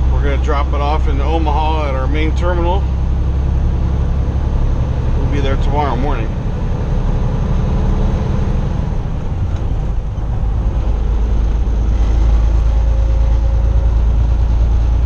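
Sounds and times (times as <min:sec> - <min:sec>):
road noise: 0:00.0 - 0:15.0
truck diesel engine rumbling: 0:00.0 - 0:15.0.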